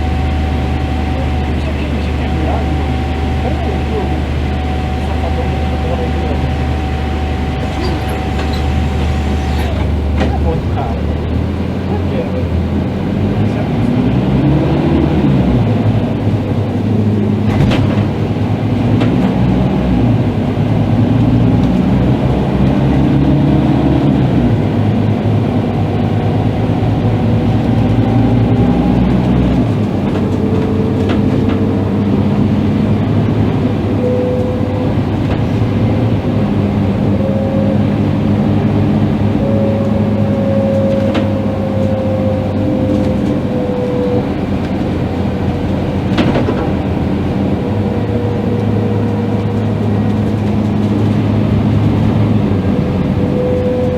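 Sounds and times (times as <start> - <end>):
bus diesel engine pulling away: 0.0 - 53.9.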